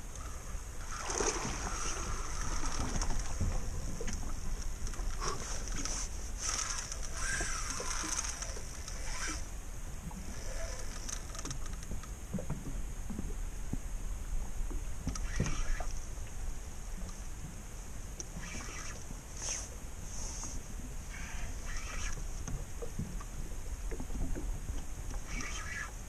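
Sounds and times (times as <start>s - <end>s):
wind and river water rumble: 0.0s - 26.0s.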